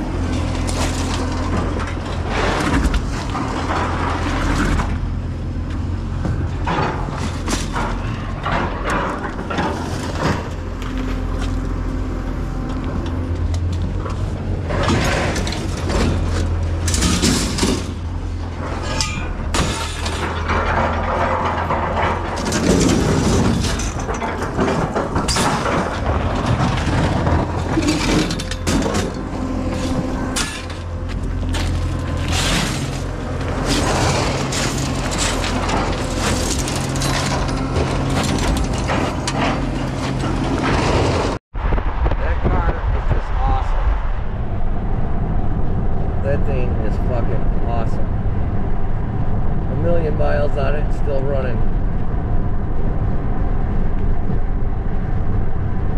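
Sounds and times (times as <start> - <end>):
engine rumbling: 0.0 - 55.9.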